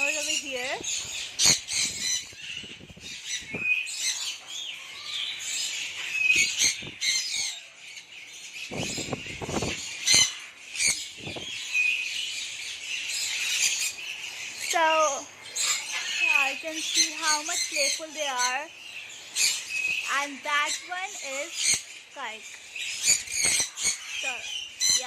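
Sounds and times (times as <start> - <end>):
parrots squawking and chirping: 0.0 - 25.0.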